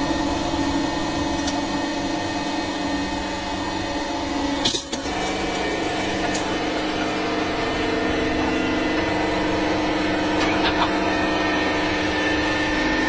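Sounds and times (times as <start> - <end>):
hydraulic pump motor humming: 0.0 - 13.0.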